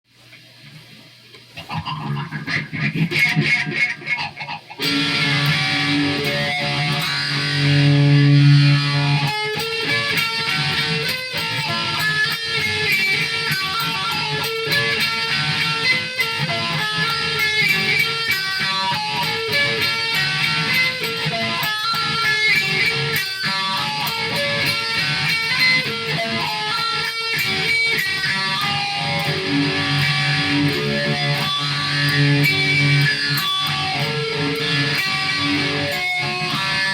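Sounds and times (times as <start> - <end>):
guitar playing: 1.6 - 36.9.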